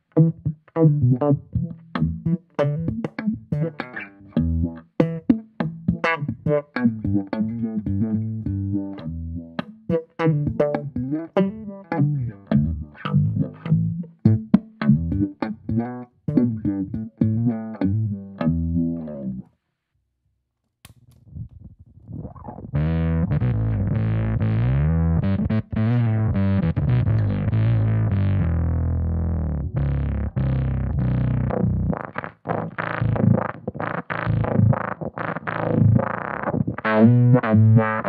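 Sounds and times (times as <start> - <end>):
electric bass with wah filter: 0.0 - 19.5, 21.3 - 38.0.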